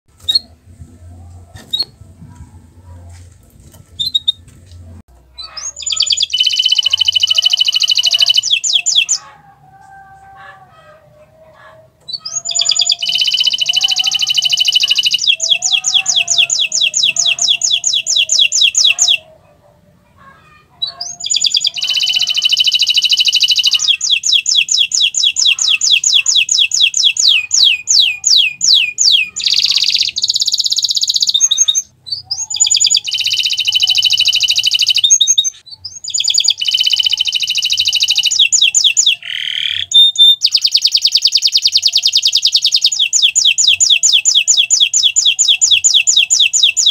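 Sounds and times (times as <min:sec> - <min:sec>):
canary singing trills: 0:00.2 - 0:00.6, 0:04.0 - 0:04.4, 0:05.3 - 0:09.6, 0:10.2 - 0:19.6, 0:20.4 - 0:46.9.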